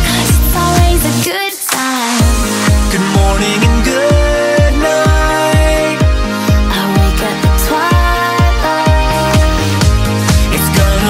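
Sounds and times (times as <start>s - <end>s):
kick drum beat: 0.0s - 1.1s, 2.2s - 11.0s.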